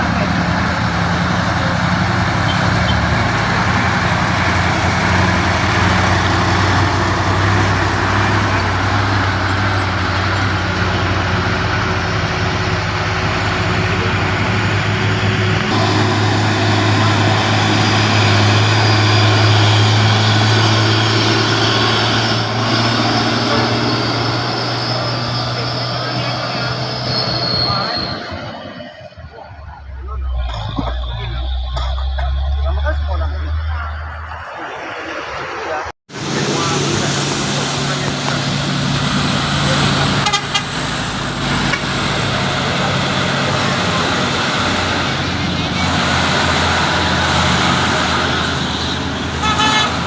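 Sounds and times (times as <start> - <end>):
heavy truck engine under load: 0.0 - 35.1, 35.7 - 50.0
road noise: 0.0 - 50.0.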